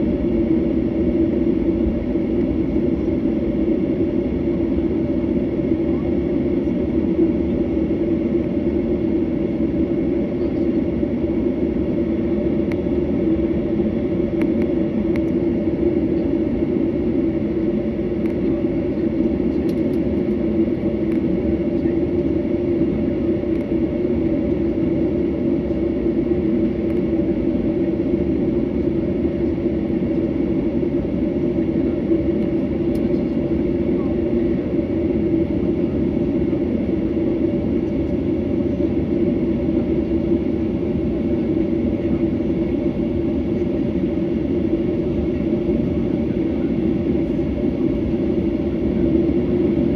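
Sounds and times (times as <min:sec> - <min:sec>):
jet engines idling hum: 0:00.0 - 0:49.9.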